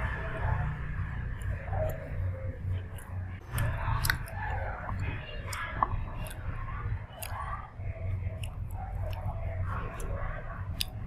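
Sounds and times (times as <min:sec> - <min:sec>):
steady low rumble: 0:00.0 - 0:11.0
person chewing: 0:01.3 - 0:11.0
wet mouth clicks: 0:01.4 - 0:07.5, 0:08.2 - 0:11.0.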